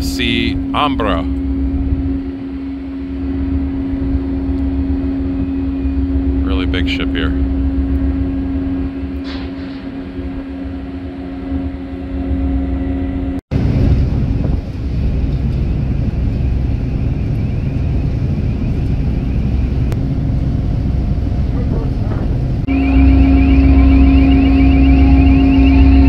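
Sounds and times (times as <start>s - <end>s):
ship machinery drone: 0.0s - 26.0s
wind rumbling on microphone: 0.0s - 26.0s.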